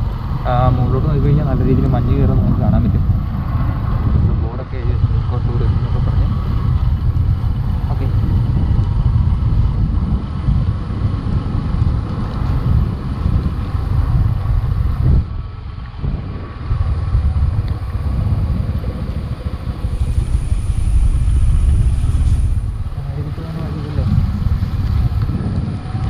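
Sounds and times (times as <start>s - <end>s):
motorbike engine running: 0.0s - 26.0s
wind rumble on microphone: 0.0s - 26.0s.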